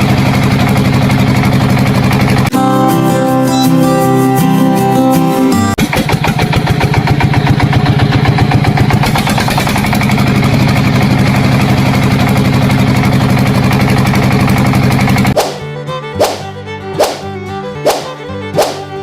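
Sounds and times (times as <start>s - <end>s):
engine idling with chugging: 0.0s - 3.7s, 5.8s - 17.6s.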